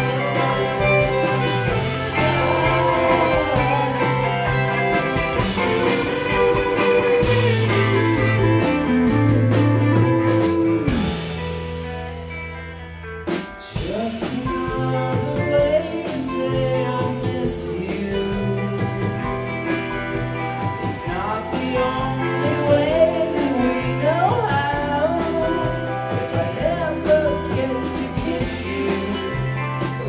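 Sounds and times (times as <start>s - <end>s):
live band playing: 0.0s - 30.0s.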